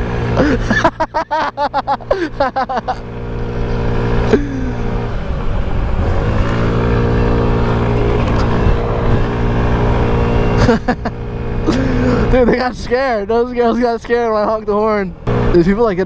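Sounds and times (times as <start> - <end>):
moped engine running: 0.0 - 16.0.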